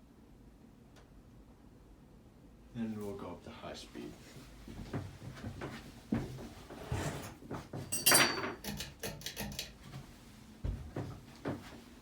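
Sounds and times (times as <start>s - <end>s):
ceiling fan humming: 0.0s - 12.0s.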